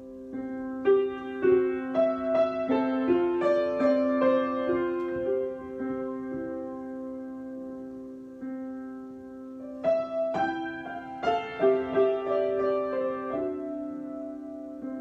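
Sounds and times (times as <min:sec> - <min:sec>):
solo piano improvisation: 0:00.0 - 0:15.0.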